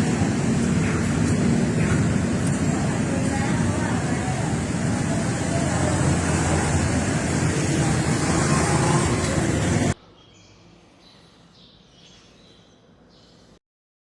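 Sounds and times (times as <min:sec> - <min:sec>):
road traffic with engine rumble: 0:00.0 - 0:11.9.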